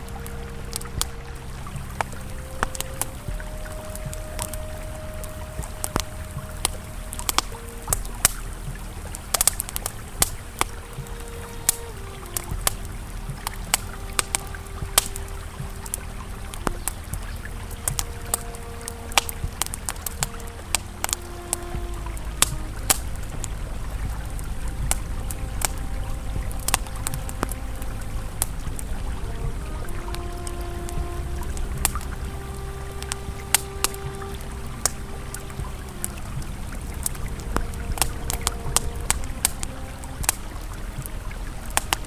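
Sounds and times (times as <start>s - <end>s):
campfire crackling and popping: 0.0s - 42.0s
river flowing: 0.0s - 42.0s
soft ambient music: 0.0s - 42.0s.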